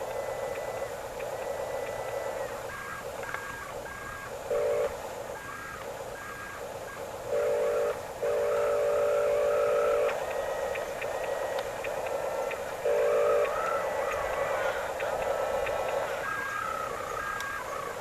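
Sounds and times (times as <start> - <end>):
harsh electronic tone: 0.0 - 6.6, 7.3 - 11.6, 12.2 - 18.0
electronic buzzing hum: 0.0 - 18.0.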